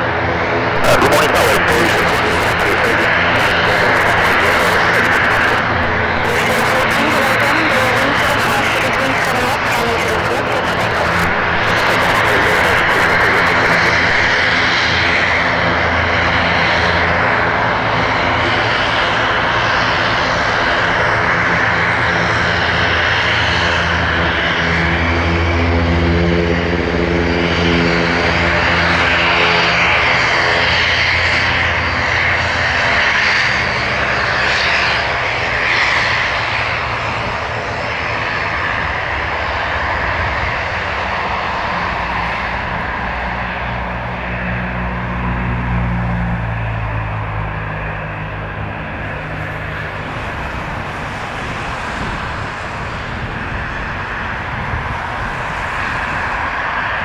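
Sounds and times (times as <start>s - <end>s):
turboprop propeller drone: 0.0s - 57.0s.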